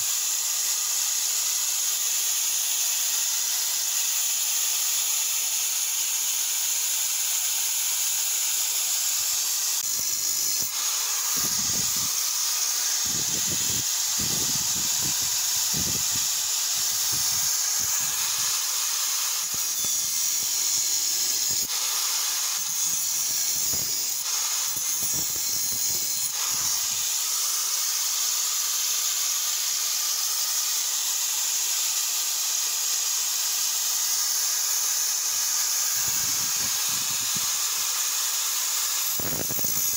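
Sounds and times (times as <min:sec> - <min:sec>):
angle grinder whining: 0:00.0 - 0:39.9
grinder cutting steel: 0:00.0 - 0:39.9.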